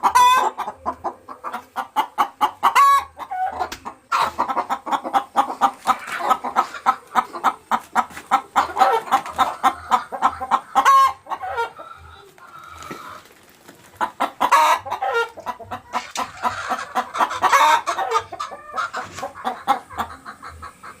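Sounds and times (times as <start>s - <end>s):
hens clucking loudly: 0.0s - 21.0s.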